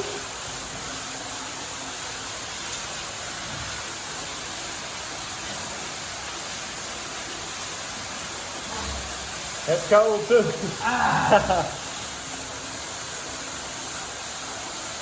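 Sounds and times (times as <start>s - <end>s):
water rushing in a cave: 0.0s - 15.0s.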